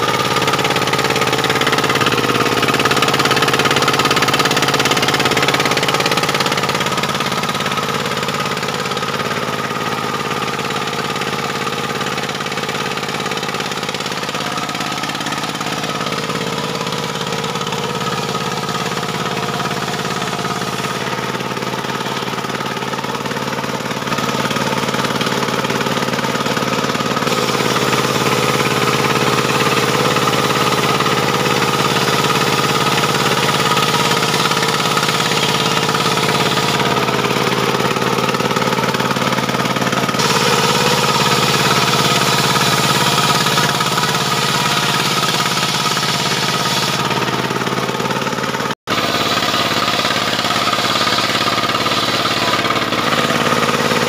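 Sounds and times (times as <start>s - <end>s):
circular saw ripping timber: 0.0s - 54.0s
sawmill engine running: 0.0s - 54.0s.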